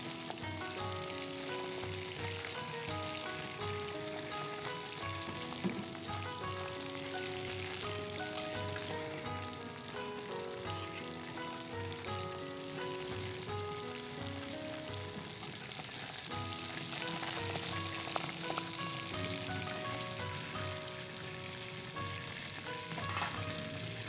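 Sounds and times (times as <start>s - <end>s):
background music with a beat: 0.0s - 15.6s, 16.3s - 24.0s
shrimp sizzling in hot oil: 0.0s - 24.0s.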